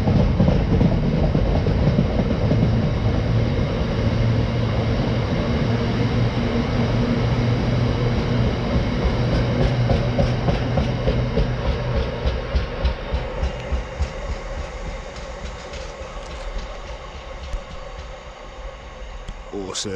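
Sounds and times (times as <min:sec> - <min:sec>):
freight train rumble: 0:00.0 - 0:19.9.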